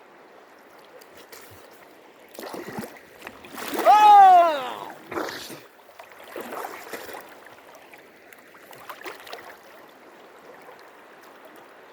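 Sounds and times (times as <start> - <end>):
river water running: 0.0 - 11.9
water splashing and trickling: 0.4 - 11.9.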